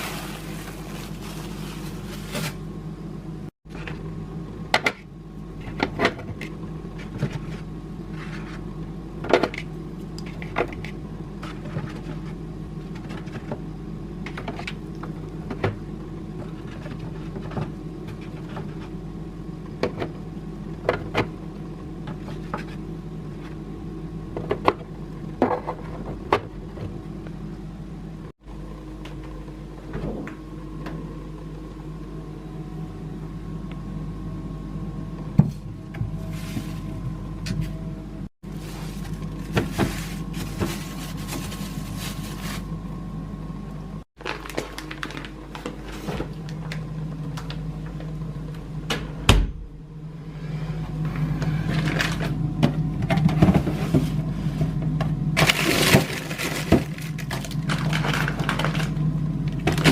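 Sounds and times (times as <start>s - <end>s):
appliance hum: 0.0s - 59.9s.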